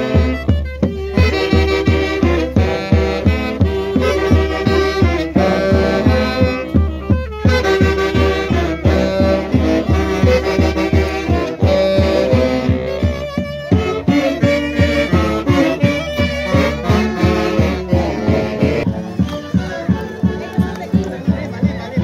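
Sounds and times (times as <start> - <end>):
saxophone band playing: 0.0 - 21.8
bass drum beat: 0.0 - 22.0.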